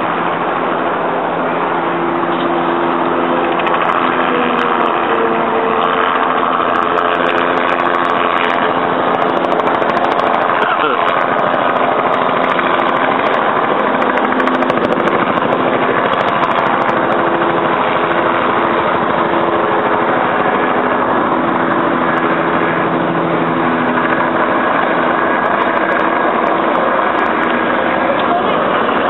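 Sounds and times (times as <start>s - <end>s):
helicopter engine and rotors: 0.0s - 29.0s.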